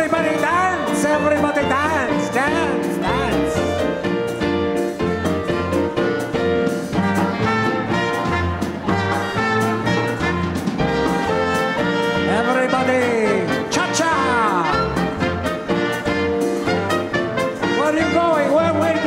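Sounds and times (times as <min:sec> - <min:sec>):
brass section playing: 0:00.0 - 0:19.0
sliding swooping brass notes: 0:00.2 - 0:19.0.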